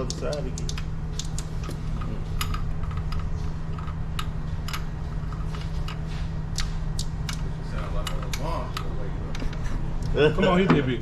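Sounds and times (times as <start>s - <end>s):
hand tools clicking and tapping: 0.0s - 9.6s
steady low hum: 0.0s - 11.0s.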